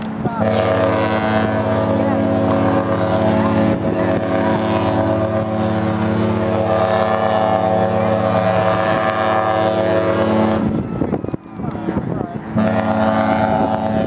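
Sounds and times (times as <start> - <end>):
deep drone from a vessel: 0.0 - 14.0.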